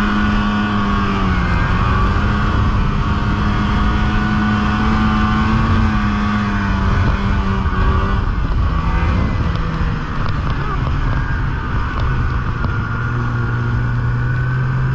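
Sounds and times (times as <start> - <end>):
snowmobile engine running: 0.0 - 14.9.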